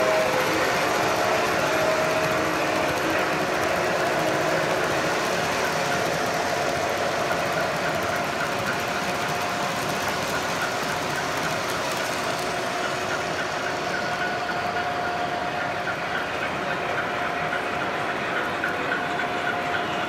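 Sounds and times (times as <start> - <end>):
model train wheels clattering: 0.0 - 20.0.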